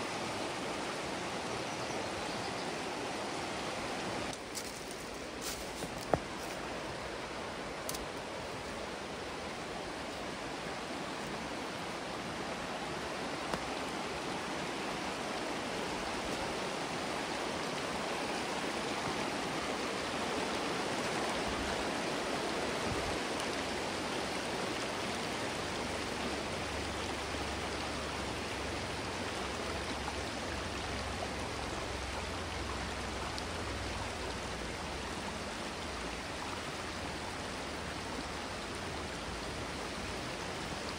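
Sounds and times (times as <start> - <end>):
creek water running over rocks: 0.0 - 40.9.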